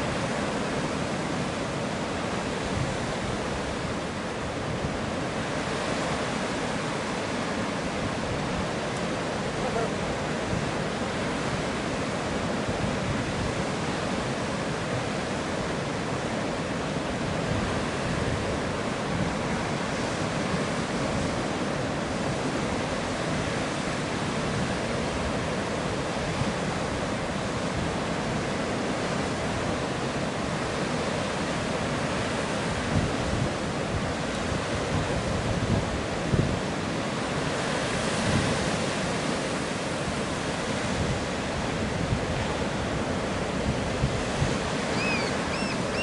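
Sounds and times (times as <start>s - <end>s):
surf rushing on rocky shore: 0.0s - 46.0s.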